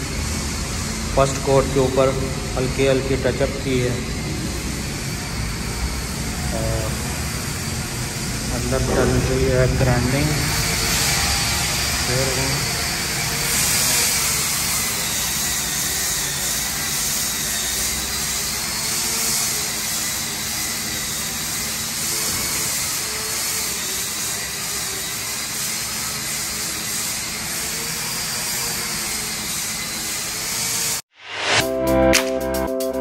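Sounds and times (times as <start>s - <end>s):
electric disc grinder sanding: 0.0s - 31.0s.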